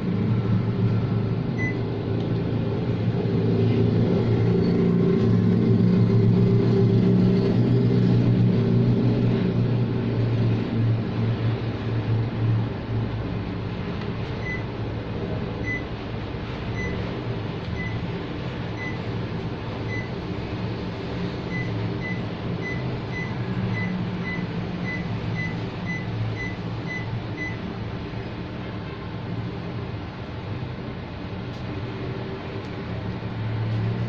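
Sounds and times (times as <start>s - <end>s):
air conditioner low hum: 0.0s - 34.0s.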